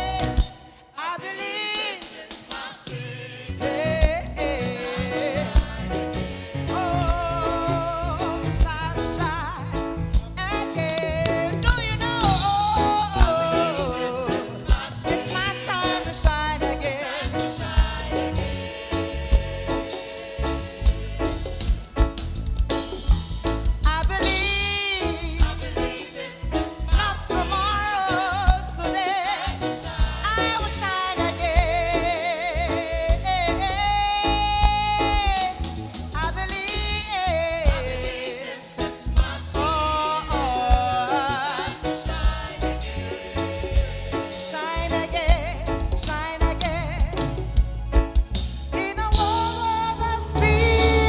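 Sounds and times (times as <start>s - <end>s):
band with steady drum beat: 0.0s - 0.8s, 1.8s - 51.0s
person singing with vibrato: 0.0s - 22.0s, 23.8s - 47.4s, 48.7s - 51.0s.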